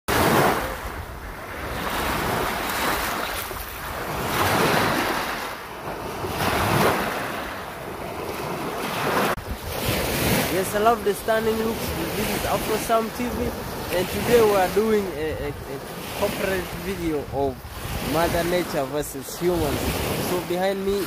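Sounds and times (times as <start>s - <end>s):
waves washing onto shore: 0.1s - 21.0s
wind buffeting microphone: 0.1s - 21.0s.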